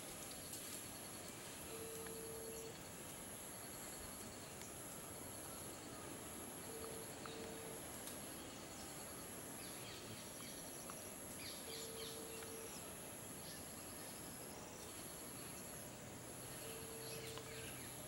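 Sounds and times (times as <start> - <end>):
pulsing cricket chirr: 0.0 - 18.0.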